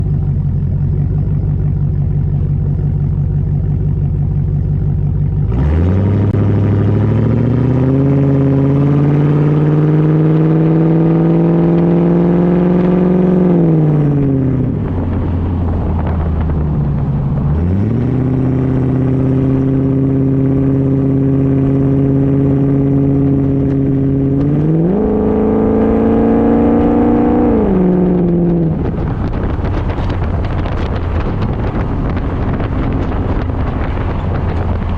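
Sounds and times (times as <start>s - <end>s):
engine idling and revving: 0.0s - 34.9s.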